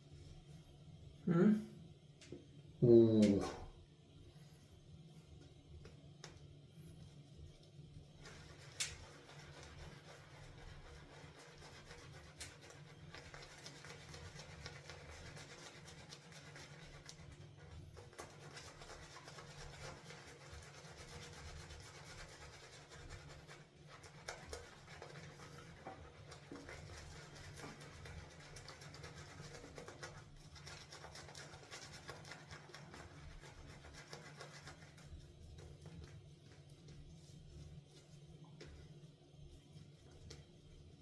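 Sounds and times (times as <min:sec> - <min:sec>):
shaving brush swirling lather: 0:06.2 - 0:41.0.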